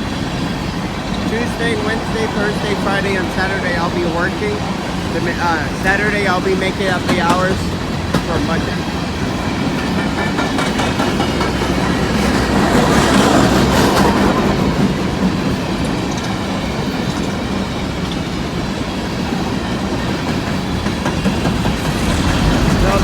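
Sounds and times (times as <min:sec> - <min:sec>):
freight train rumbling and rattling: 0:00.0 - 0:23.0
wheels clacking over rail joints: 0:00.0 - 0:23.0.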